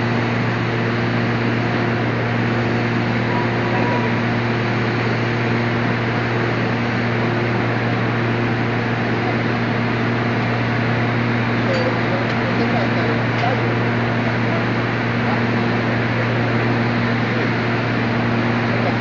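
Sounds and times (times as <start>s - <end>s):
constant low hum: 0.0s - 19.0s.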